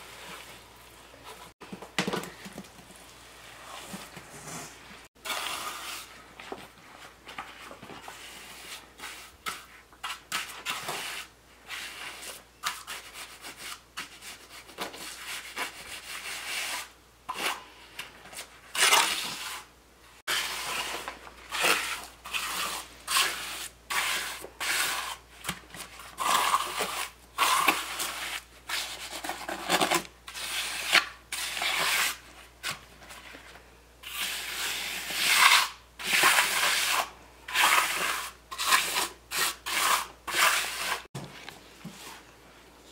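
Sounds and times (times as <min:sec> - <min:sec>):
trowel scraping wet concrete: 0:03.6 - 0:06.2, 0:07.3 - 0:19.7, 0:20.3 - 0:32.8, 0:34.0 - 0:41.1.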